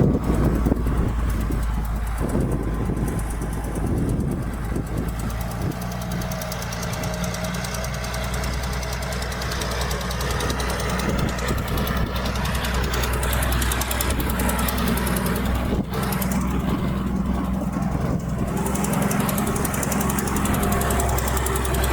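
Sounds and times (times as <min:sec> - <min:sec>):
heavy diesel engine rumbling: 0:00.0 - 0:21.9
mechanical clatter: 0:00.0 - 0:21.9.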